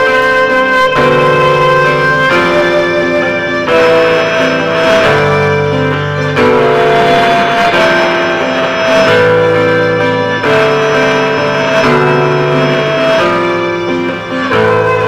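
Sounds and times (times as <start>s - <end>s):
instrumental music of held chords: 0.0s - 15.0s.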